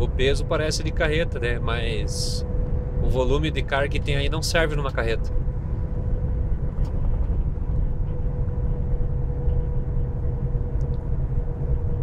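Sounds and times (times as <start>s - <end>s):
faint whine: 0.0s - 12.0s
truck engine and road rumble: 0.0s - 12.0s.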